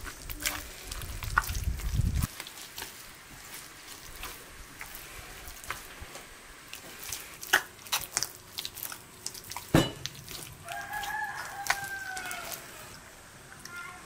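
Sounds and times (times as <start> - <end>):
hands kneading wet dough: 0.0 - 14.0.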